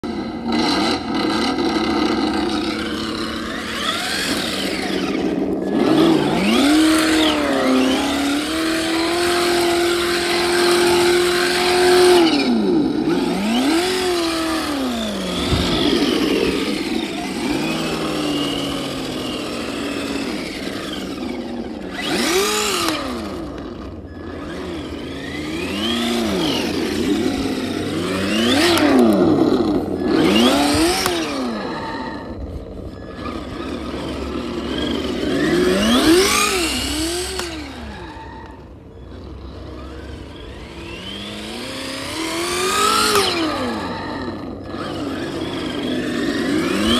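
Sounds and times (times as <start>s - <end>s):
simulated engine revving: 0.0s - 46.9s.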